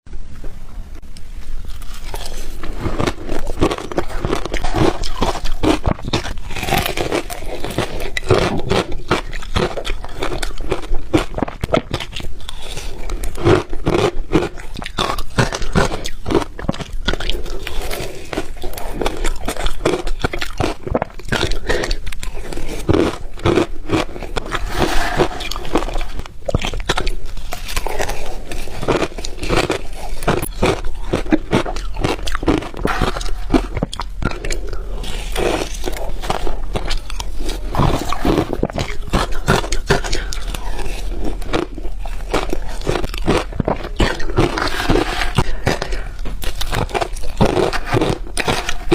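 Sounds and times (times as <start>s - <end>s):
ice being chewed: 1.6s - 48.9s.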